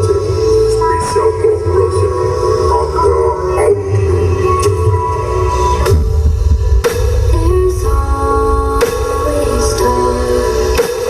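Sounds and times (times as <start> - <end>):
steady low bass: 0.0 - 10.8.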